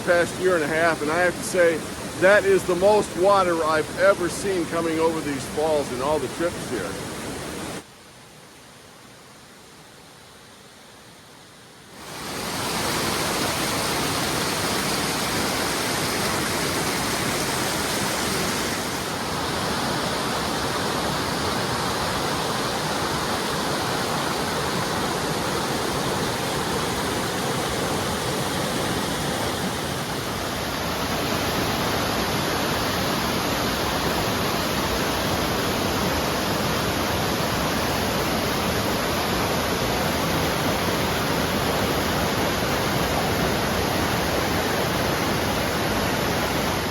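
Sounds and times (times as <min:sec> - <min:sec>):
waterfall rushing: 0:00.0 - 0:07.9, 0:11.9 - 0:46.9.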